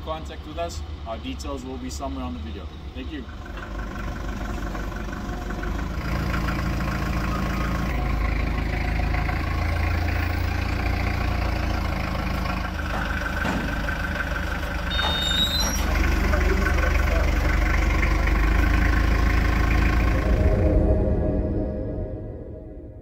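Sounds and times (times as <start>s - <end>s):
forklift engine idling: 0.0s - 22.3s.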